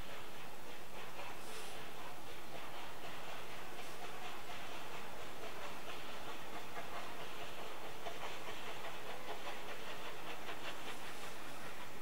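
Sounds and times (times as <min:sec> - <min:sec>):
rapid rail clicks: 0:00.0 - 0:12.0
steam train rushing on rails: 0:00.0 - 0:12.0.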